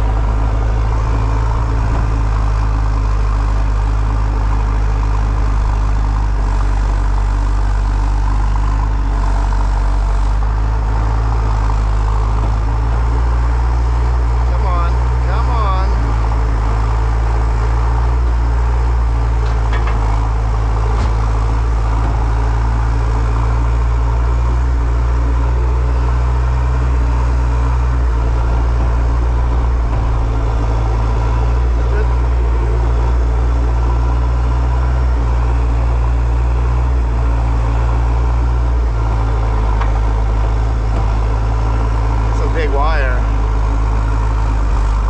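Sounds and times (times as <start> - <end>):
large engine droning: 0.0 - 45.0.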